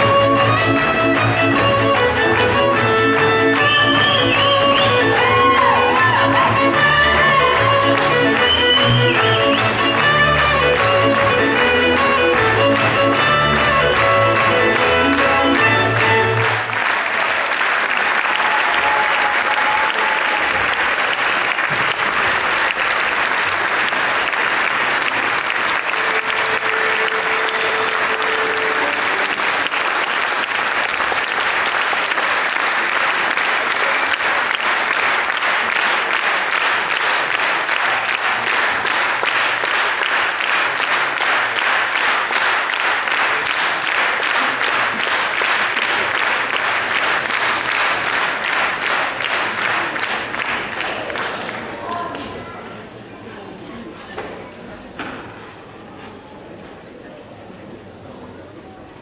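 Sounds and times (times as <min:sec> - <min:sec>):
audience applauding: 0:00.0 - 0:52.5.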